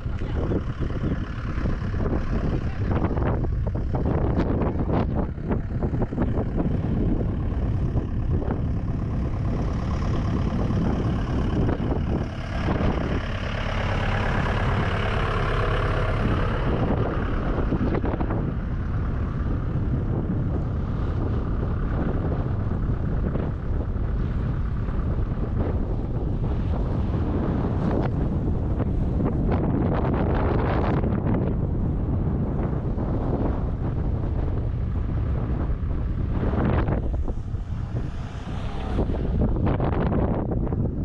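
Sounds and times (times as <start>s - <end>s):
rushing wind hiss: 0.0s - 41.0s
wind buffeting microphone: 0.0s - 41.0s.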